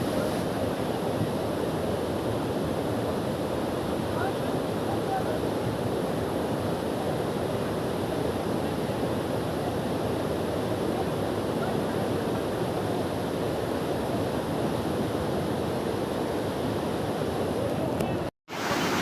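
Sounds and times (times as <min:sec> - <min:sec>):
floodwater rushing in a stream: 0:00.0 - 0:19.0.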